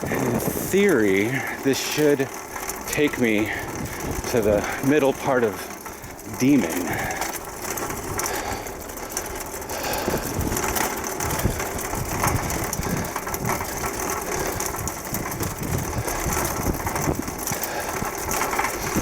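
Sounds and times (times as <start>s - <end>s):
bicycle rattling and rumbling: 0.0s - 19.0s.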